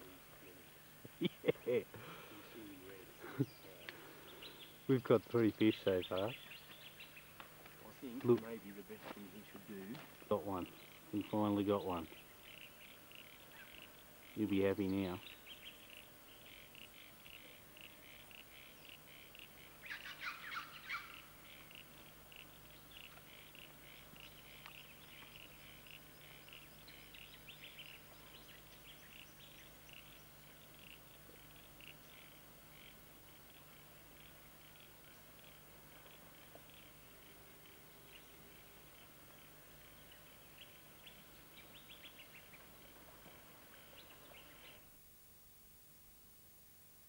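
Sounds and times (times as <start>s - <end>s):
faint bird chirping: 0.0s - 45.0s
faint hiss: 0.0s - 47.0s
low steady hum: 0.0s - 47.0s.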